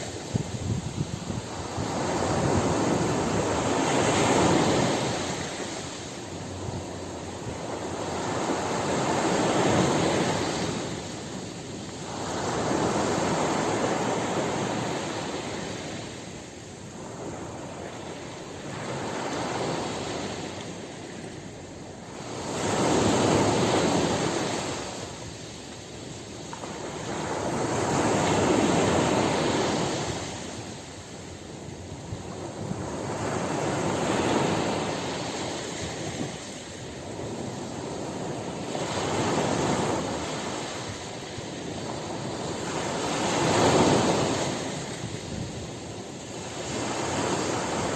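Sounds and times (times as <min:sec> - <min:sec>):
ocean waves washing on beach: 0:00.0 - 0:47.9.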